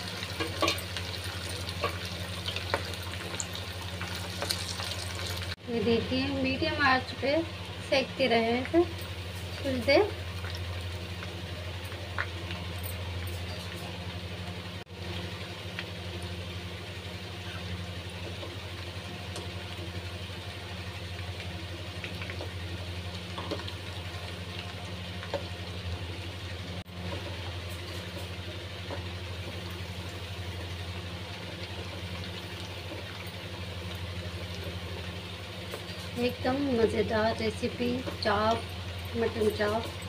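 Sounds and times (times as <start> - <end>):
constant low hum: 0.0 - 40.0
meat deep-frying in hot oil: 0.0 - 40.0.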